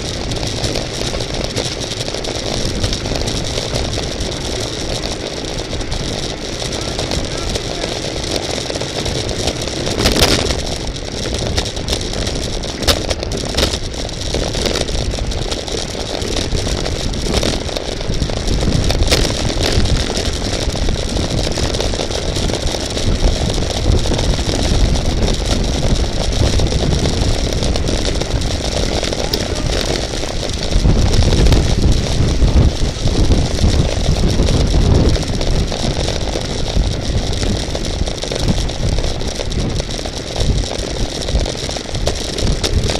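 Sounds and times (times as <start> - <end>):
tyre and road noise: 0.0 - 42.9
wind rushing over microphone: 0.0 - 42.9.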